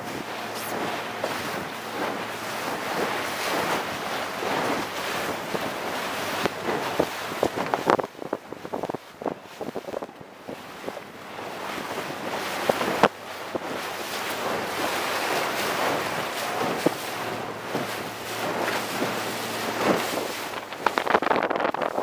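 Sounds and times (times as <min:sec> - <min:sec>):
water rushing past hull: 0:00.0 - 0:22.0
wind buffeting microphone: 0:00.0 - 0:22.0.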